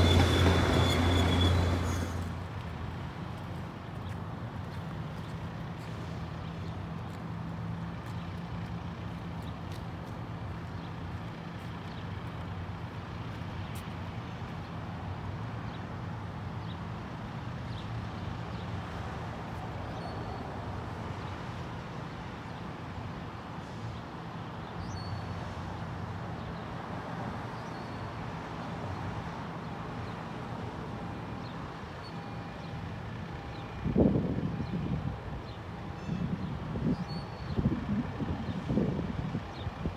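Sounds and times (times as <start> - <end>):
outdoor background noise: 0.0 - 39.9.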